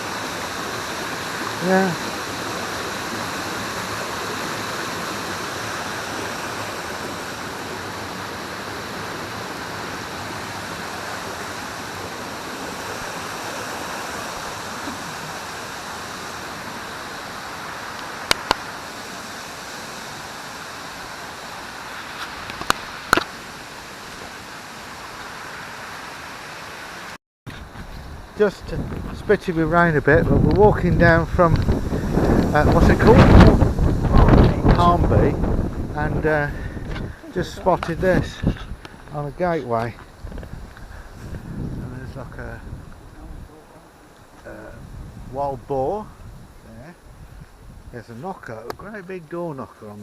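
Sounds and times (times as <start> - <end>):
waterfall and stream rushing: 0.0 - 50.0.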